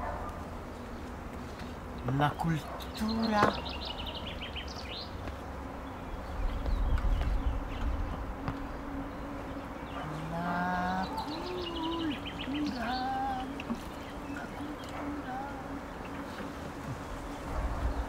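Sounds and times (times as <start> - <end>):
birds chirping: 0.0 - 18.0
flying insect buzzing: 0.0 - 18.0.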